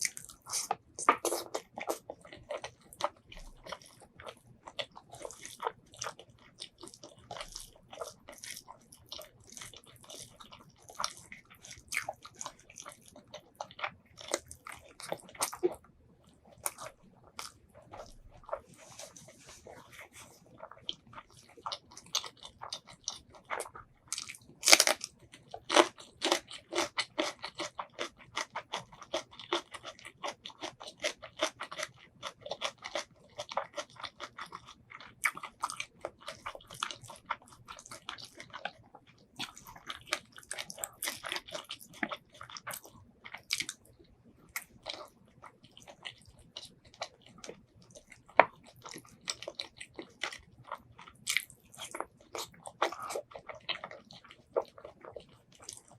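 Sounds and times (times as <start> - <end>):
person chewing: 0.0 - 55.9.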